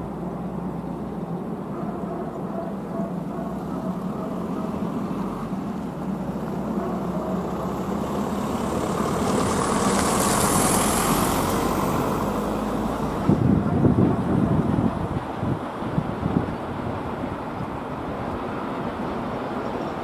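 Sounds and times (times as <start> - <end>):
vehicle rumble: 0.0 - 20.0
wind gusts on microphone: 1.3 - 20.0.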